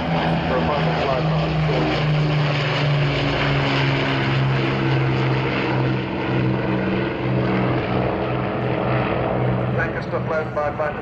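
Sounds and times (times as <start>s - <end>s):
propeller plane engines droning: 0.0s - 11.0s.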